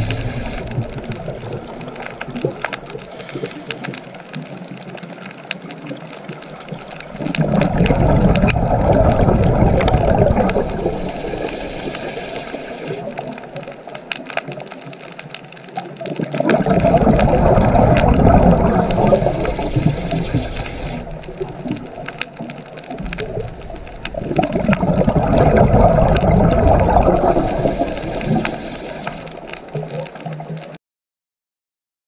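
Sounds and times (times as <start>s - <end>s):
faint clicks: 0.0s - 30.8s
rushing gurgling water underwater: 0.0s - 30.8s.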